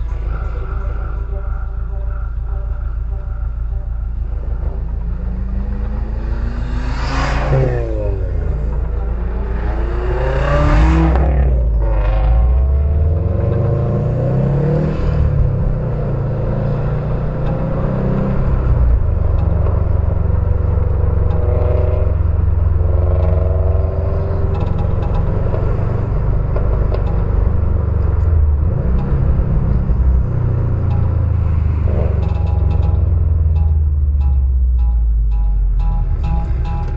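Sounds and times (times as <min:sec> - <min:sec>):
car engine exhaust rumbling: 0:00.0 - 0:36.9.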